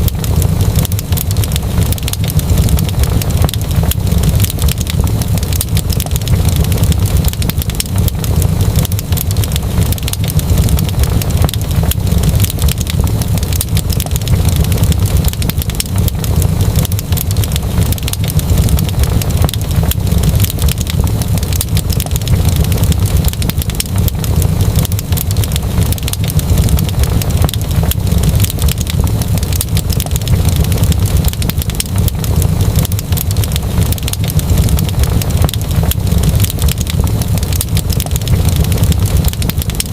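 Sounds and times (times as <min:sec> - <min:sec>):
deep rumble: 0:00.0 - 0:39.9
fire crackling and popping: 0:00.0 - 0:39.9.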